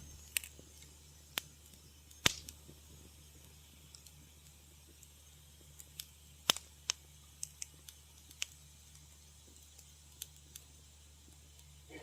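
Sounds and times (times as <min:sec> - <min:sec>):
faint low hum: 0:00.0 - 0:12.0
wood fire crackling: 0:00.0 - 0:12.0.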